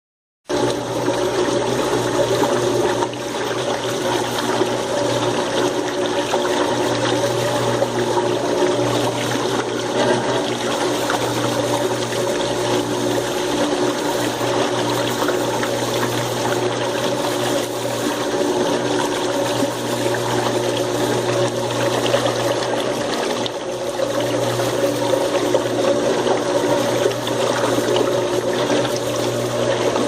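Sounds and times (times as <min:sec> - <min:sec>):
washing machine water churning: 0:00.4 - 0:30.0
motor pump hum: 0:00.5 - 0:30.0.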